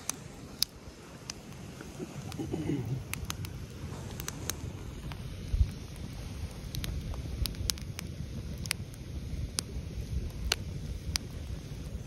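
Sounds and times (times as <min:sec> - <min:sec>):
campfire crackling and popping: 0:00.0 - 0:12.0
wind rumble on microphone: 0:00.3 - 0:12.0.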